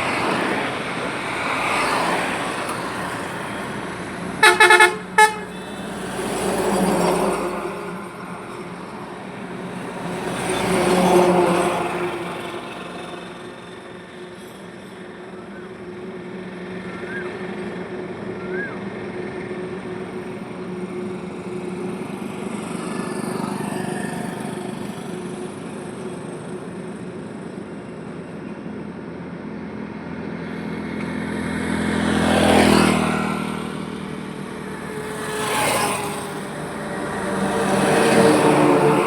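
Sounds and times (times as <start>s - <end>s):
highway traffic hum: 0.0s - 39.0s
vehicles passing close: 0.0s - 39.0s.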